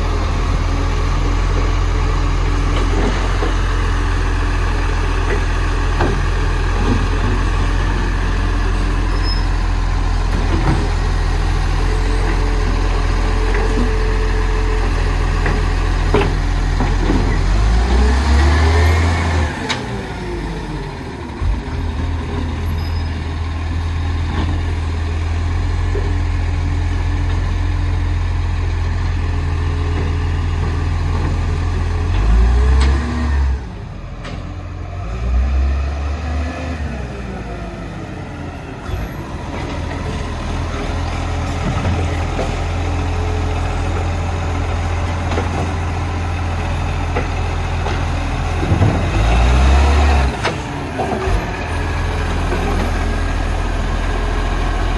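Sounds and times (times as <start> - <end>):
diesel truck engine droning: 0.0 - 54.9.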